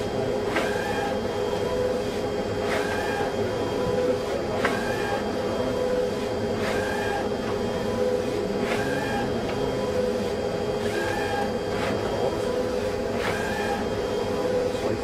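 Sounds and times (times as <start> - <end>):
plotter mechanical hum: 0.0 - 15.0
print carriage whir: 0.0 - 15.0.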